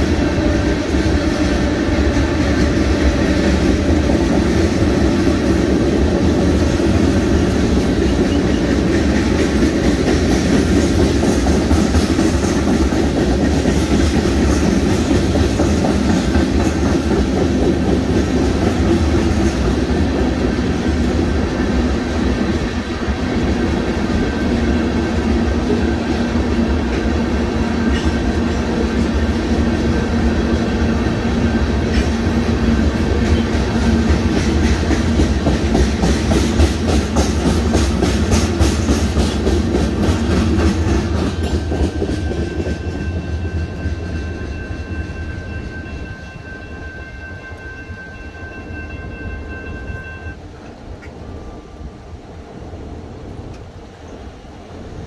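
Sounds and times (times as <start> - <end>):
steel wheels clacking on rail joints: 0.0 - 51.2
freight train rolling past: 0.0 - 55.0.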